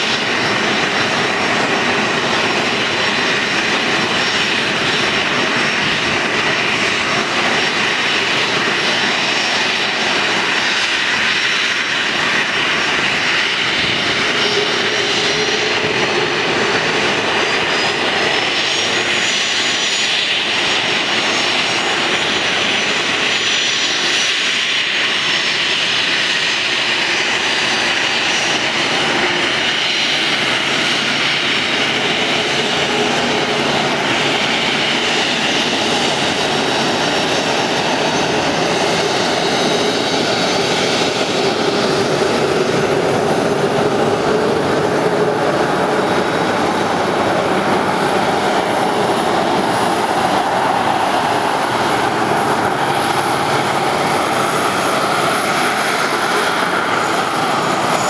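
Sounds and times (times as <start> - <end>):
jet engines idling whine: 0.0 - 58.0.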